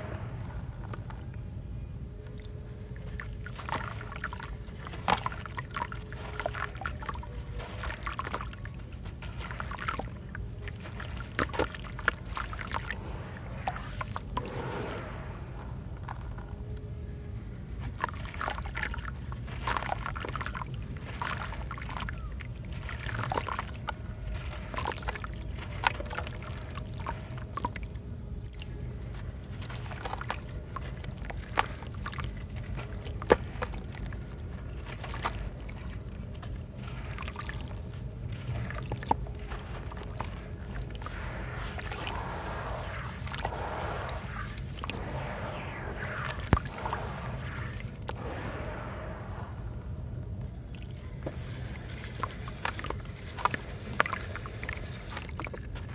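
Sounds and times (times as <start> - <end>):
steady low hum: 0.0 - 55.9
water sloshing and trickling: 0.0 - 55.9.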